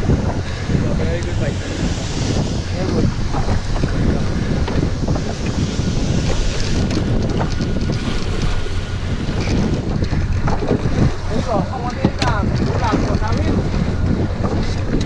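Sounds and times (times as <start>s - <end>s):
boat engine hum: 0.0s - 15.0s
rough sea wash: 0.0s - 15.0s
wind buffeting microphone: 0.0s - 15.0s.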